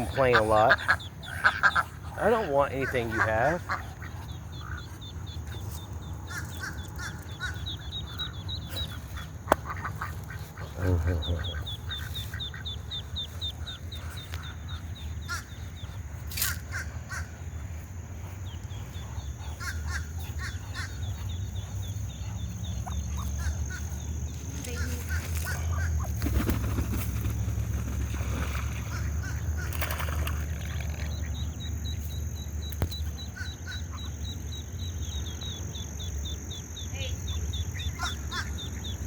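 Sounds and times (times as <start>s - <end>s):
lower bird calls: 0.0s - 39.0s.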